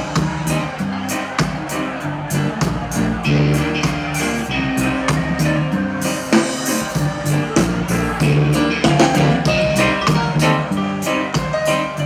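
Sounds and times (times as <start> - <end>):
reggae band playing: 0.0 - 12.0.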